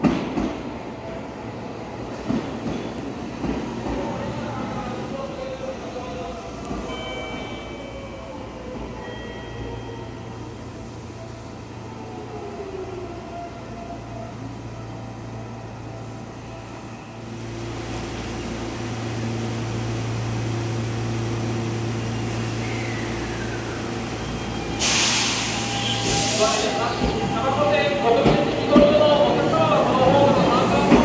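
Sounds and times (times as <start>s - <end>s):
standing train hum: 0.0s - 31.0s.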